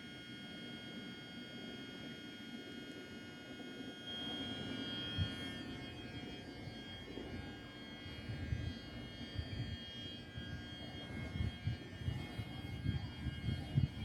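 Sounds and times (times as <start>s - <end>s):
electric train whine: 0.0s - 14.0s.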